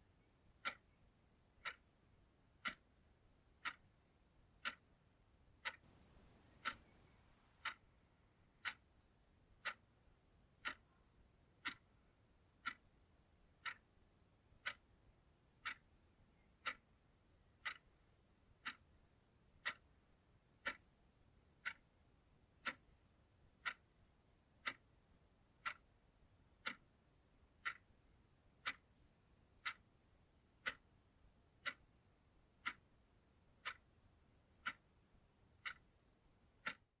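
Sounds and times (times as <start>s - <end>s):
faint background hiss: 0.0s - 36.9s
clock ticking: 0.1s - 37.0s.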